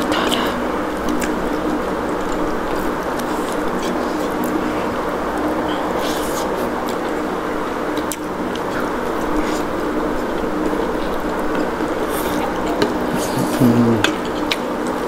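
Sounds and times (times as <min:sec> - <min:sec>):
faint eating clicks: 0:00.0 - 0:15.0
steady mechanical hum: 0:00.0 - 0:15.0.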